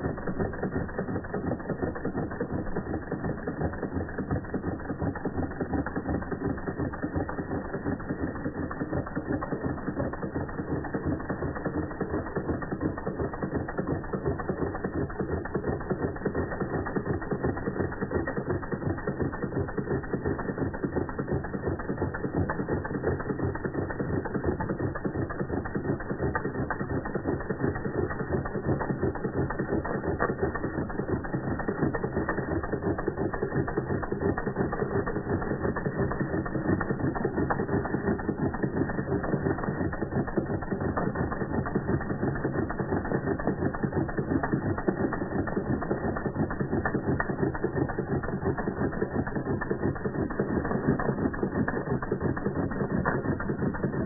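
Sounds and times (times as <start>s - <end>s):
toy steam engine clattering: 0.0s - 54.0s.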